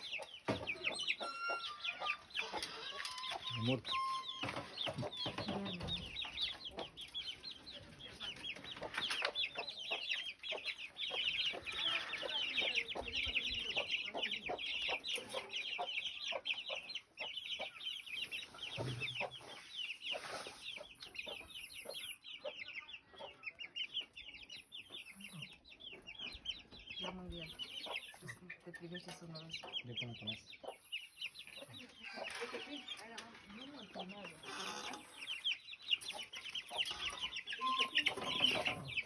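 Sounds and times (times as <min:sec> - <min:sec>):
many birds chirping: 0:00.0 - 0:39.0.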